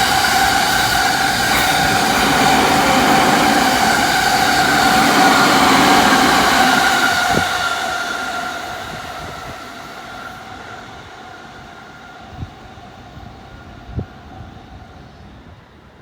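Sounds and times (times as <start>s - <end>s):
electric train pulling away: 0.0s - 14.8s.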